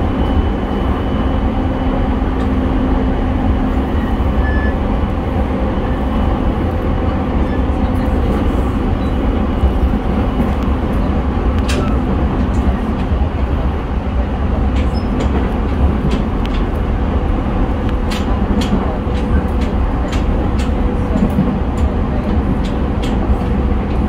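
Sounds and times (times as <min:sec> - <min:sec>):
train motor hum: 0:00.0 - 0:24.0
train wheels rumbling on rail: 0:00.0 - 0:24.0.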